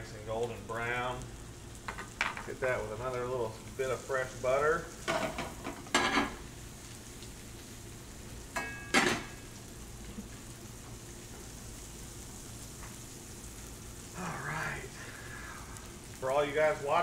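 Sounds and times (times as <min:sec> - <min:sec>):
fish sizzling in skillets: 0:00.0 - 0:17.0.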